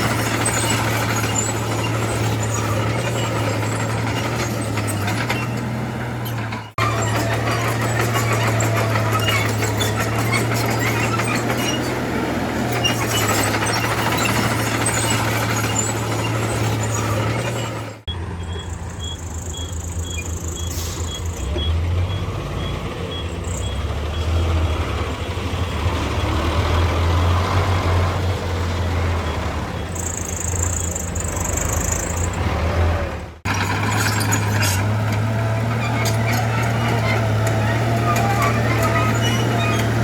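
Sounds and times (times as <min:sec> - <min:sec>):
diesel machinery engine drone: 0:00.0 - 0:40.0.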